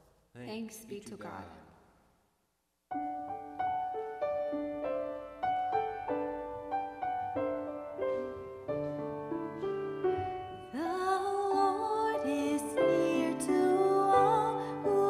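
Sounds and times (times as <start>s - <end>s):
grand piano playing: 2.9s - 15.0s.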